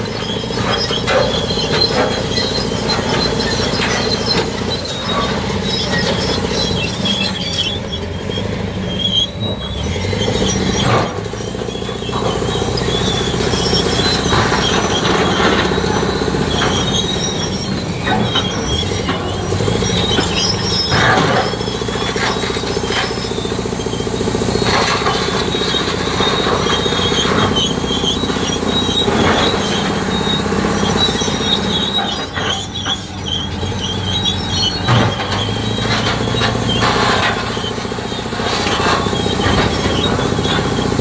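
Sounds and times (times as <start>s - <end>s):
bulldozer diesel engine under load: 0.0s - 41.0s
steel tracks squealing: 0.0s - 41.0s.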